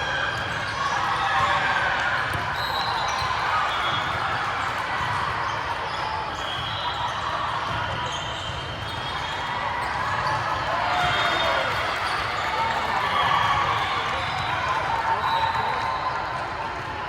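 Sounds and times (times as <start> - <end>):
echoing crowd chatter: 0.0 - 17.0.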